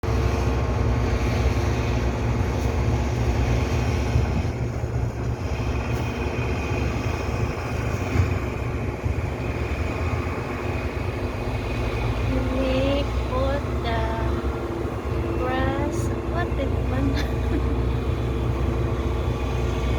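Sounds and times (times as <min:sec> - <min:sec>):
truck engine running: 0:00.0 - 0:19.9.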